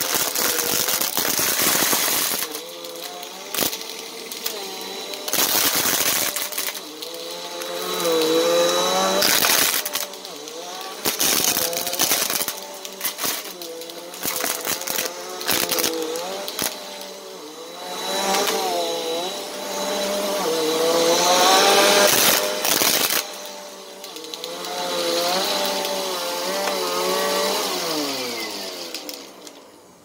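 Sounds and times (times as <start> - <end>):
plastic beads clattering: 0.0 - 29.8
vacuum cleaner motor whine: 0.0 - 30.0.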